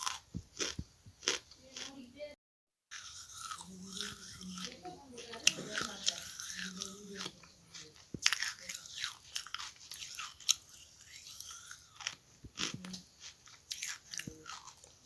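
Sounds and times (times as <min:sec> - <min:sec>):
chewing charcoal crunches: 0:00.0 - 0:02.0, 0:02.9 - 0:15.0.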